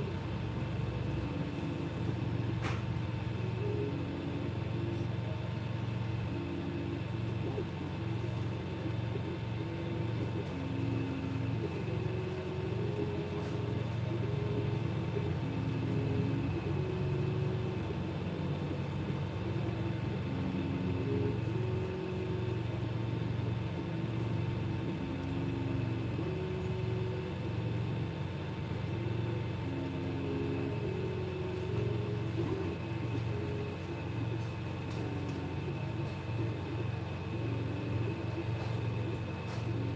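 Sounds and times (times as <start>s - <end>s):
fans humming: 0.0s - 39.9s
stepper motors whining: 0.0s - 39.9s.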